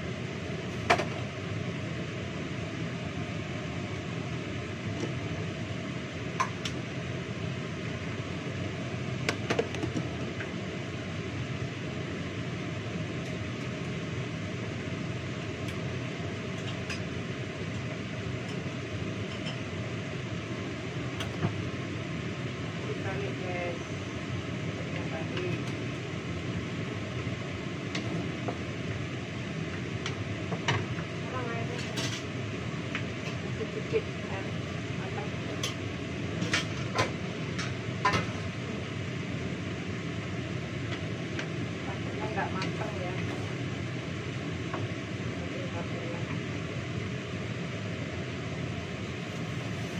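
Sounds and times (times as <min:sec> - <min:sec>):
range hood fan running: 0:00.0 - 0:49.9.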